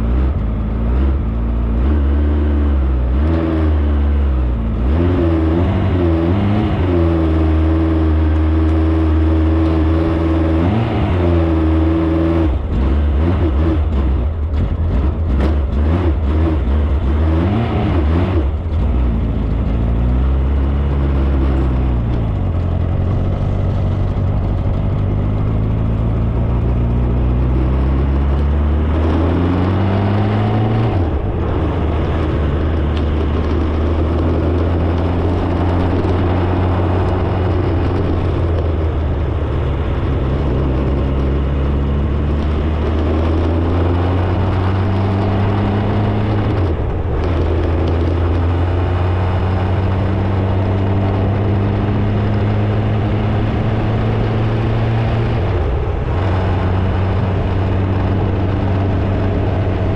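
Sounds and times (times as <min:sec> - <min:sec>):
road noise: 0:00.0 - 0:59.9
vehicle engine accelerating: 0:00.0 - 0:59.9.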